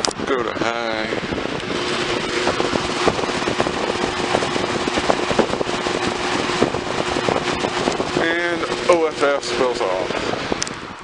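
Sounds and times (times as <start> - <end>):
box fan air rush: 0.0 - 11.0
fan motor hum: 0.0 - 11.0.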